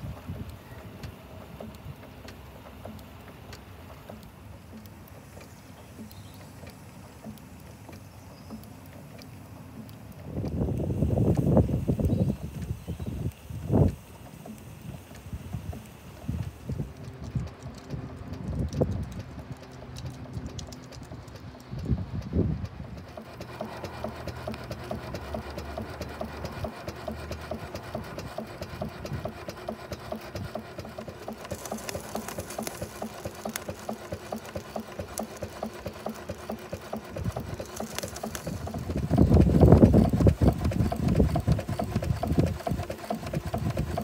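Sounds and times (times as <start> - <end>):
steam engine rapid even beat: 0.0 - 44.0.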